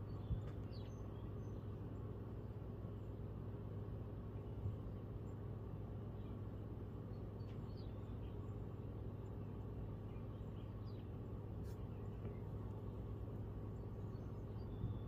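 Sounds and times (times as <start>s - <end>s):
faint bird chirps: 0.0s - 1.8s, 4.4s - 15.0s
low outdoor rumble: 0.0s - 15.0s.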